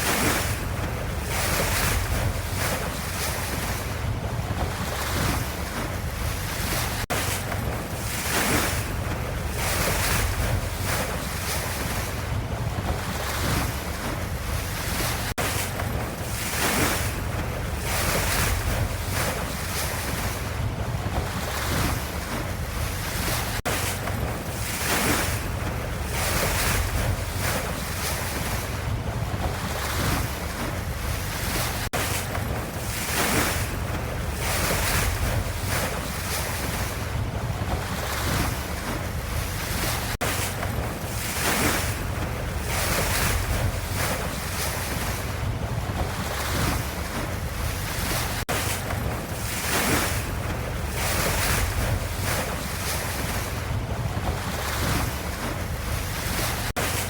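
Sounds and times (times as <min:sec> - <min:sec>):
ocean waves surging: 0:00.0 - 0:57.0.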